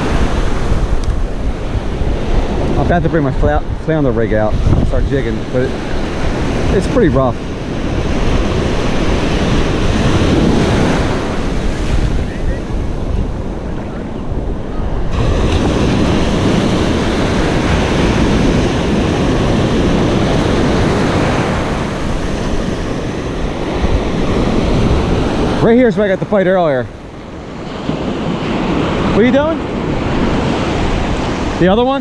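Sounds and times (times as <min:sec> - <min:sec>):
ocean waves breaking: 0:00.0 - 0:32.0
wind buffeting microphone: 0:00.0 - 0:32.0.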